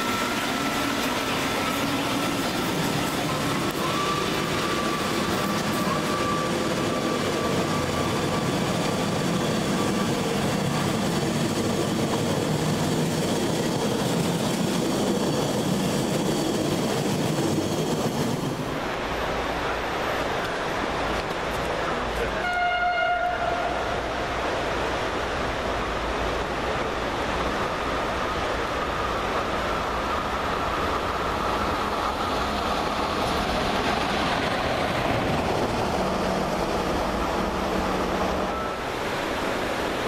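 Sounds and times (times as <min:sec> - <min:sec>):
train wheels on rails: 0:00.0 - 0:40.0.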